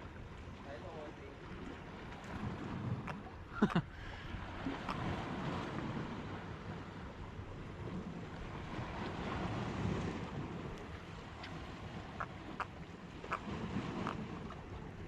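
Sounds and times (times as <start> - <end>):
sea water: 0.0 - 15.0
wind buffeting microphone: 1.5 - 15.0.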